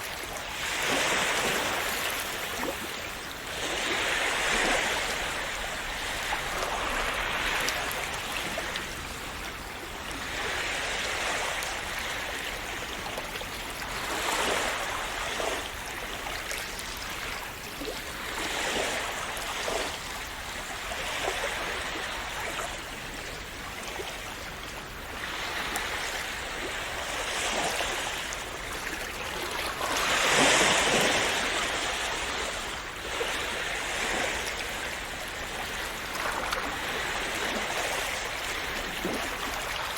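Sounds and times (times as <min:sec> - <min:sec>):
small sea waves splashing: 0:00.0 - 0:39.9.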